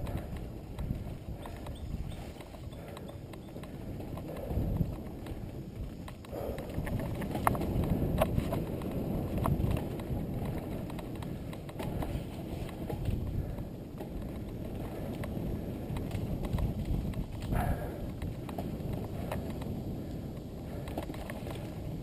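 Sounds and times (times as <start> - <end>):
bike clicking and rattling: 0.0 - 22.0
tyres rumbling on dirt: 0.0 - 22.0
wind on microphone: 0.0 - 22.0.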